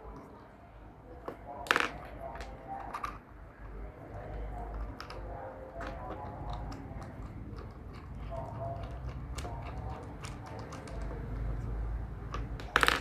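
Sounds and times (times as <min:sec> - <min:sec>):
plastic bricks clicking together: 0:01.3 - 0:03.2, 0:04.2 - 0:13.0.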